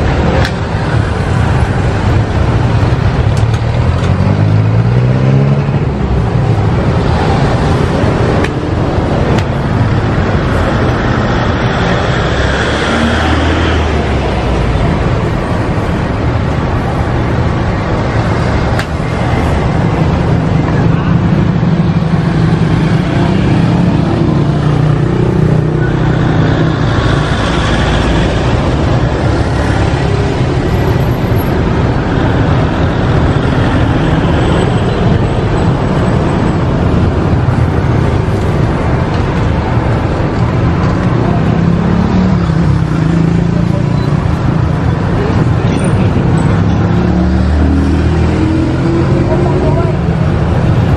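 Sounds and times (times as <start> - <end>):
traffic rumbling past: 0.0 - 50.9.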